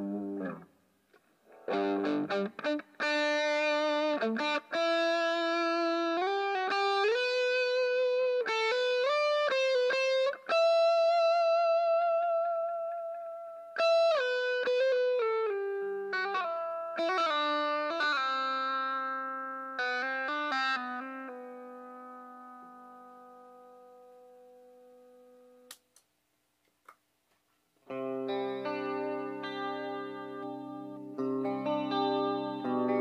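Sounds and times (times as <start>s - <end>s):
electric guitar melody: 0.0s - 25.8s, 27.8s - 33.0s.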